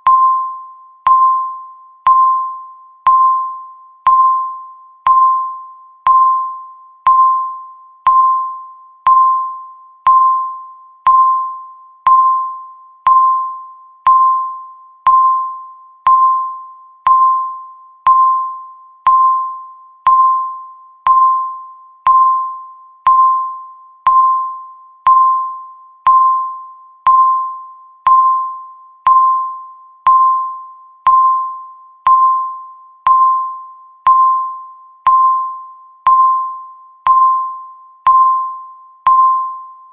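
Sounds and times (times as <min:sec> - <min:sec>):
timer ticking with bell-like tone: 0:00.0 - 0:39.9.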